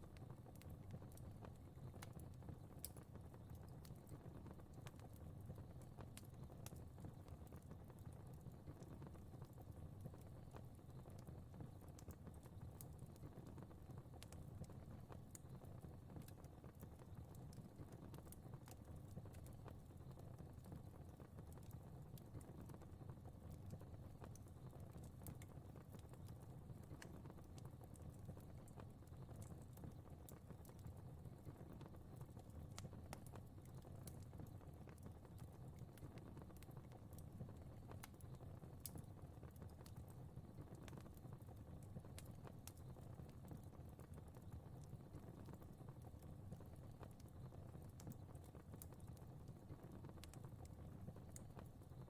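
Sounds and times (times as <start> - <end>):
faint fire crackling: 0.0 - 52.0
low rumble of flame: 0.0 - 52.0.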